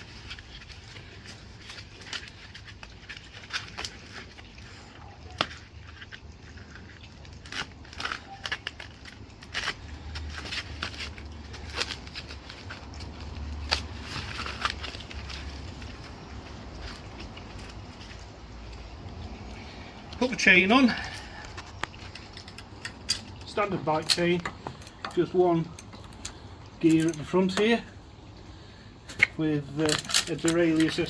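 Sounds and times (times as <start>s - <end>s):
plastic wrap crinkling: 0.0s - 25.7s.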